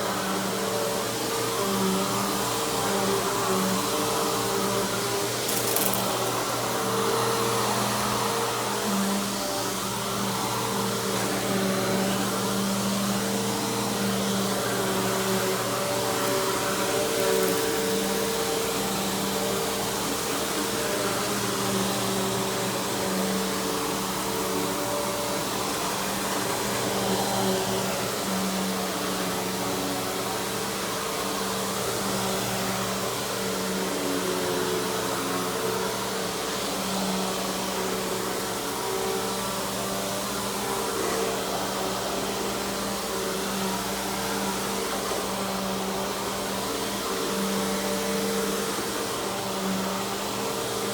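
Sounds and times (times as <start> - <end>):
upright vacuum cleaner running: 0.0 - 50.9.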